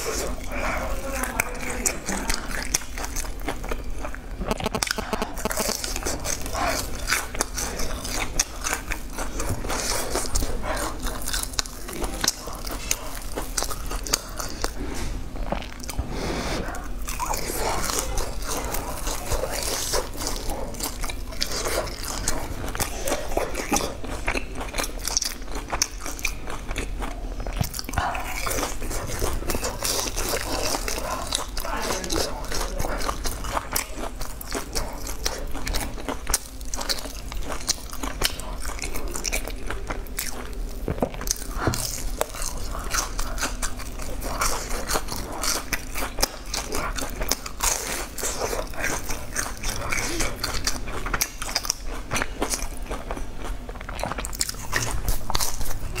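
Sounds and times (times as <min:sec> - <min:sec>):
crunchy chewing: 0:00.0 - 0:56.0
low steady hum: 0:00.0 - 0:56.0.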